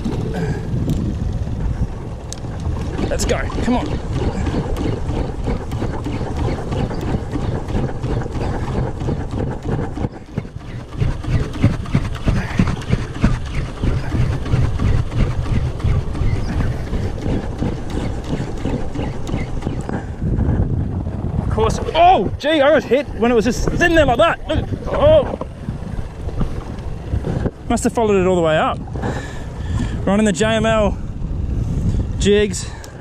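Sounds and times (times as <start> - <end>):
water slapping boat hull: 0.0 - 31.0
wind buffeting microphone: 0.0 - 33.0.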